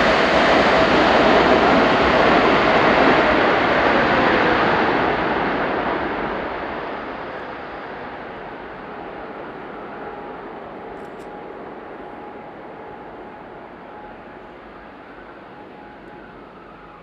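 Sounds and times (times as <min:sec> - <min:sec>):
faint engine whine: 0:00.0 - 0:17.0
jet engines reverse thrust roar: 0:00.0 - 0:17.0.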